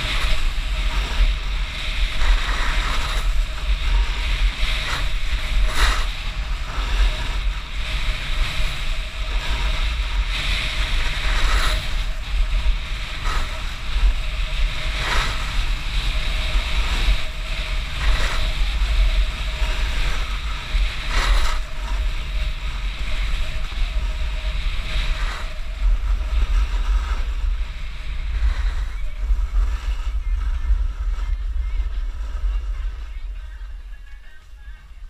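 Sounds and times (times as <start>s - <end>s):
hiss of sliding on snow: 0.0s - 35.0s
wind buffeting microphone: 0.0s - 35.0s.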